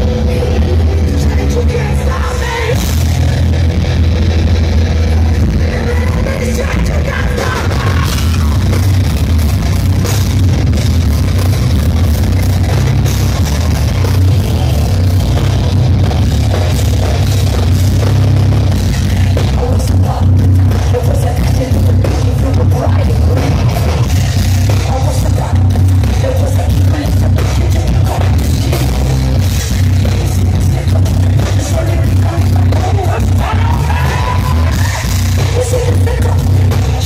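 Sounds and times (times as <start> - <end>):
live heavy metal band: 0.0 - 37.0.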